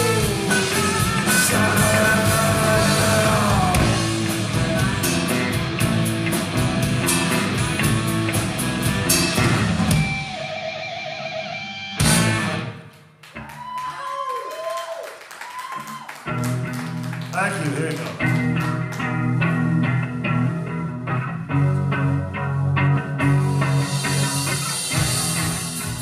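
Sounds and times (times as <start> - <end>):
rock band playing: 0.0 - 13.8, 15.8 - 26.0.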